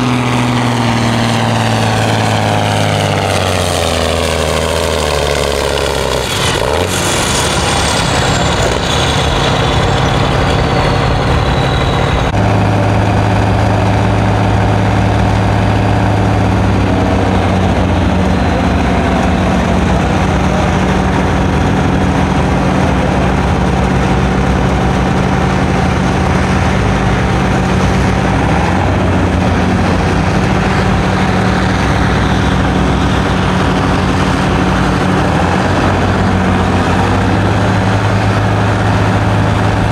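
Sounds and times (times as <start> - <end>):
diesel tractor engine working hard: 0.0 - 39.9
high whine falling in pitch: 6.2 - 39.9.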